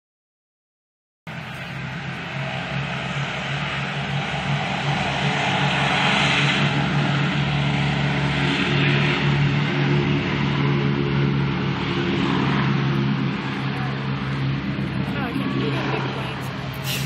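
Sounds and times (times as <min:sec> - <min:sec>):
bomber radial engines droning: 0:01.3 - 0:17.0.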